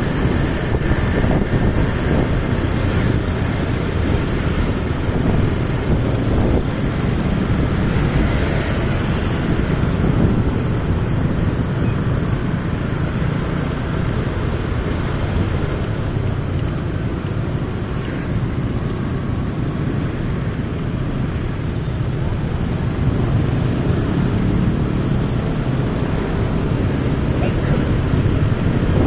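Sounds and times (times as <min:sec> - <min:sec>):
motorcycle and road noise: 0:00.0 - 0:29.0.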